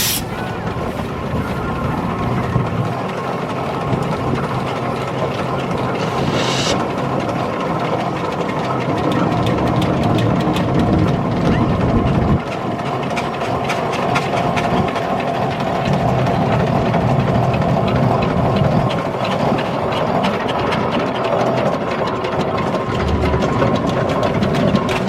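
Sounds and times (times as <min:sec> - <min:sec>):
low engine rumble: 0:00.0 - 0:25.0
steam engine clattering: 0:00.0 - 0:25.0.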